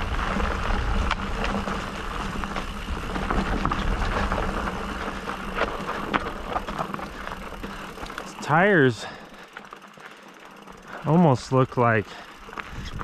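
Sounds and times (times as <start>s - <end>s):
bike tyre noise and rattling: 0.0s - 13.0s.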